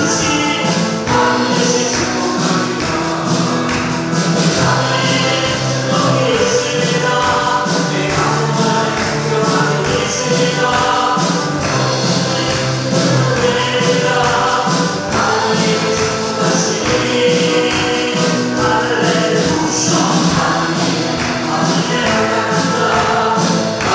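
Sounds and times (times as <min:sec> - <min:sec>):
band with steady beat: 0:00.0 - 0:23.9
voices singing together: 0:00.0 - 0:23.9.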